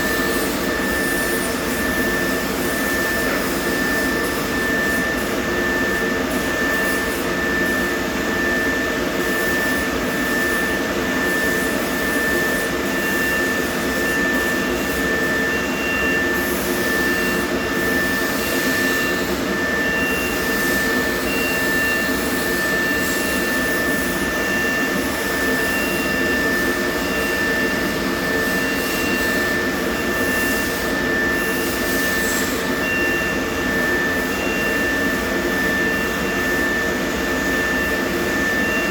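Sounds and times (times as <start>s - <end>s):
machine whirring with high whine: 0.0s - 38.9s.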